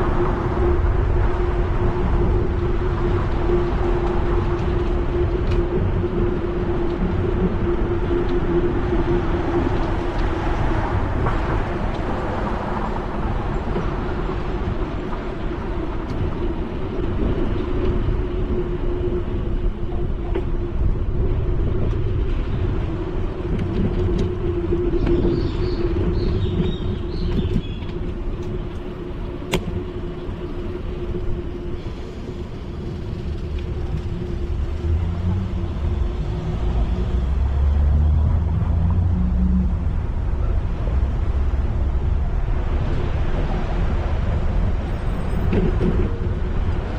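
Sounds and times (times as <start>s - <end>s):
wind rushing over microphone: 0.0s - 46.9s
bicycle rolling over paving: 2.2s - 39.8s.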